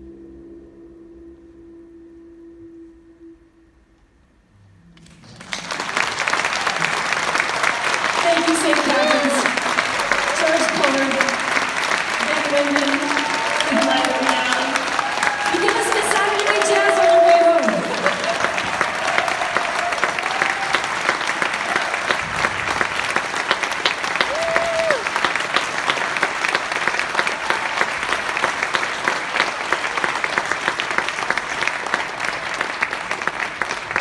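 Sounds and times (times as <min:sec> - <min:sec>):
audience applauding: 0:05.0 - 0:34.0
crowd cheer: 0:05.0 - 0:34.0.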